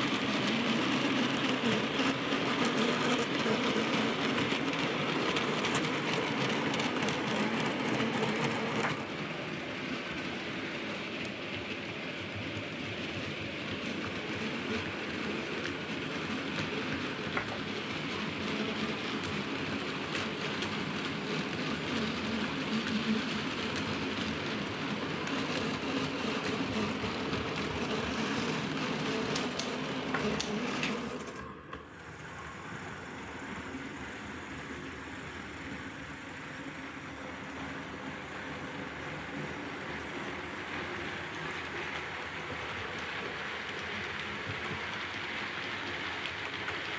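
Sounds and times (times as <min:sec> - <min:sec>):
model trains running on track: 0:00.0 - 0:46.9.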